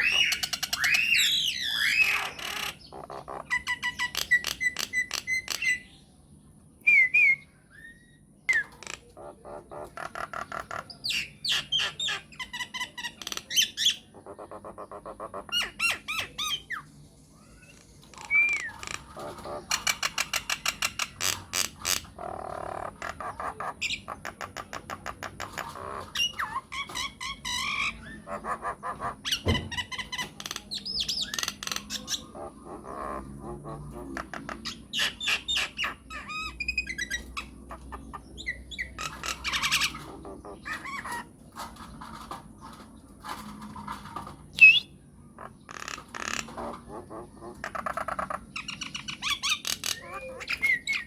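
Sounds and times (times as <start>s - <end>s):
myna bird singing: 0.0s - 51.0s.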